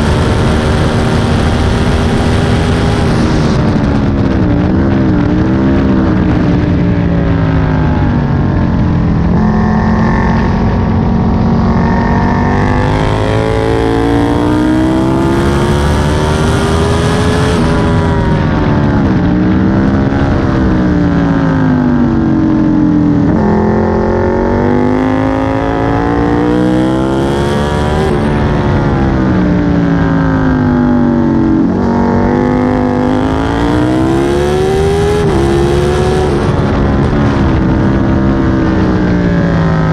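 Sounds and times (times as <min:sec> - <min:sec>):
motorcycle engine revving: 0:00.0 - 0:39.9
rushing wind: 0:00.0 - 0:39.9.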